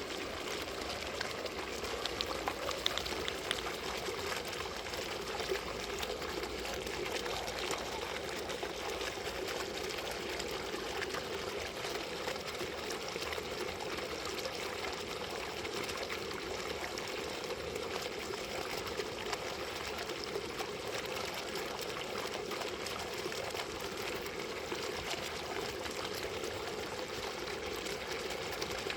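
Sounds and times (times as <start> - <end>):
water fountain splashing: 0.0 - 28.9.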